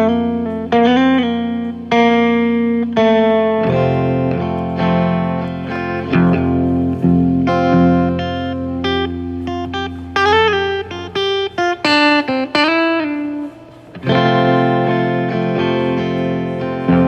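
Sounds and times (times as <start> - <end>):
guitar chord ringing: 0.0 - 17.0
plucked guitar notes: 0.0 - 17.0.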